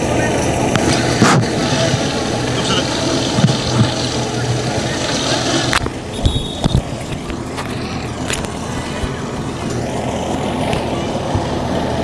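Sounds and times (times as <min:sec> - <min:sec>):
low engine hum: 0:00.0 - 0:12.0
spectators murmuring: 0:00.0 - 0:12.0.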